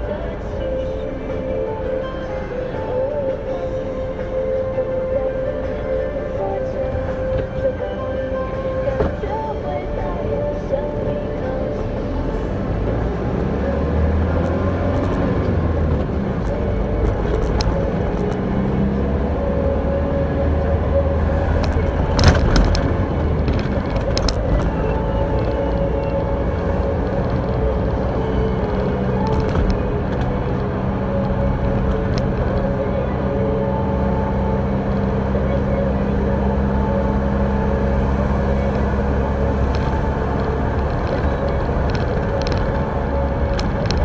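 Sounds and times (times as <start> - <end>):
truck engine and road noise: 0.0 - 44.0.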